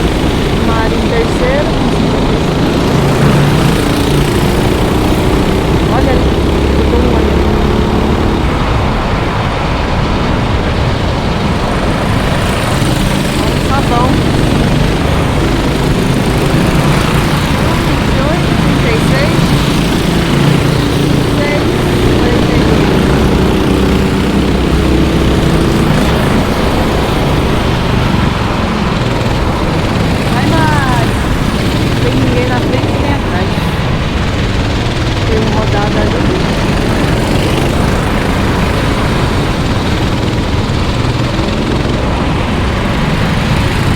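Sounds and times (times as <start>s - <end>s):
engine passing by: 0.0s - 43.9s
racing engines running: 0.0s - 43.9s.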